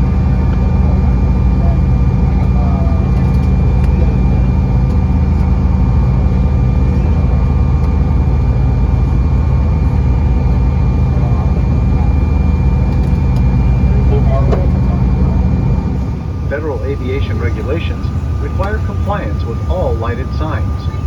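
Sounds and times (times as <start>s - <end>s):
jet cabin low rumble: 0.0s - 21.0s.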